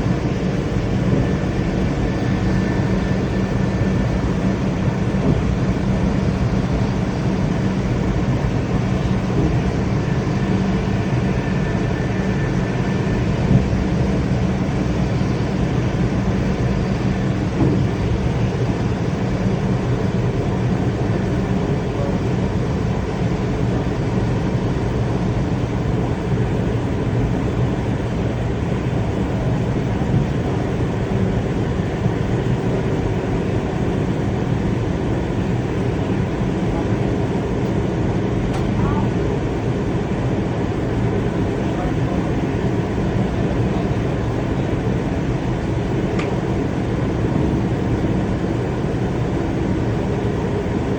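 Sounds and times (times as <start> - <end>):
passenger train running: 0.0 - 50.9.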